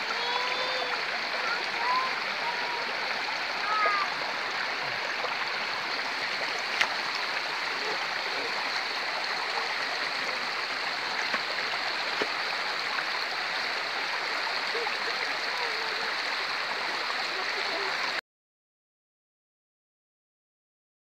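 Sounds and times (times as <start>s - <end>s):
stream babbling over stones: 0.0s - 18.2s.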